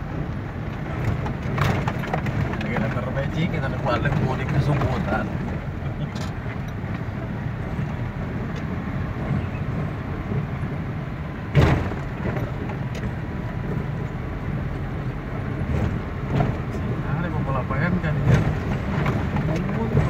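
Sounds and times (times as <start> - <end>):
engine and tyre rumble: 0.0 - 20.0.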